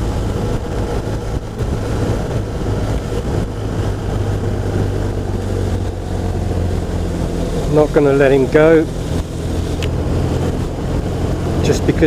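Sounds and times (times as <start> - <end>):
motorcycle engine running: 0.0 - 12.0
tyre noise on wet road: 0.0 - 12.0
wind rushing: 0.0 - 12.0.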